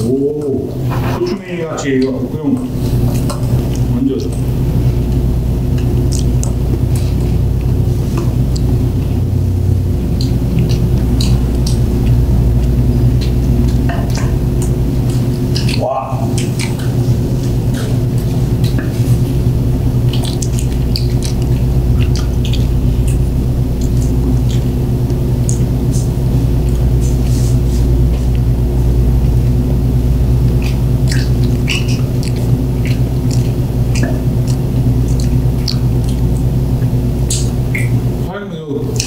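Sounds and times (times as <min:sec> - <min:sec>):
steady low hum: 0:00.0 - 0:39.0
wet chewing and lip smacking: 0:01.8 - 0:38.3.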